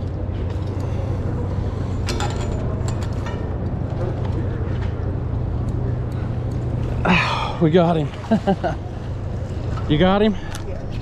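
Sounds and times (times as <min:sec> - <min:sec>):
faint voices: 0:00.1 - 0:11.0.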